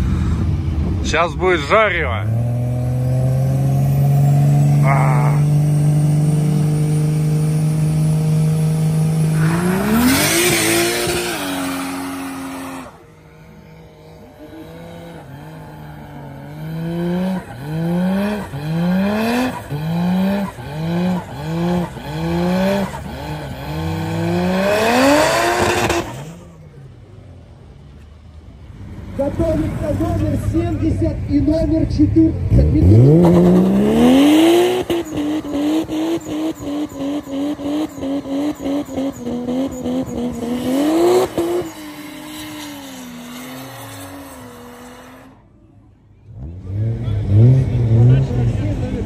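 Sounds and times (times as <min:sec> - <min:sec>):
drag car engine revving: 0:00.0 - 0:45.5, 0:46.2 - 0:49.0
car engine blipping: 0:00.0 - 0:49.0.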